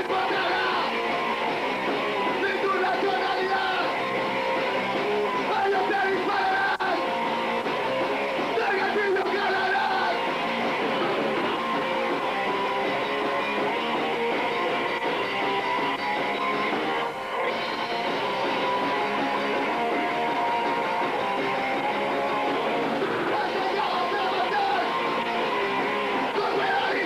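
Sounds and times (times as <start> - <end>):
punk band playing live: 0.0 - 27.0.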